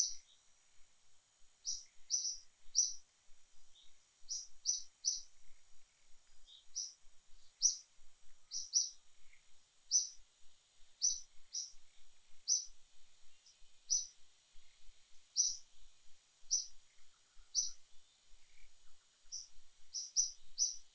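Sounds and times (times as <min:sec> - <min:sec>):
bird chirping: 0:00.0 - 0:00.5, 0:01.6 - 0:10.2, 0:10.9 - 0:20.9
steady high-pitched hiss: 0:00.0 - 0:20.9.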